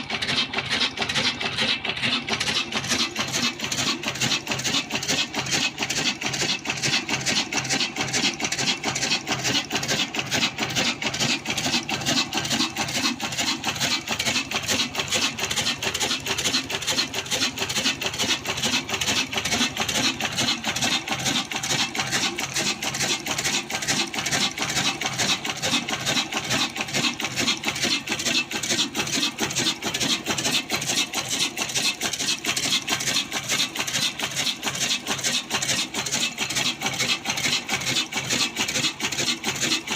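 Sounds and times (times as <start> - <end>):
diesel engine running: 0.0 - 39.9
stone mill grinding: 0.0 - 39.9.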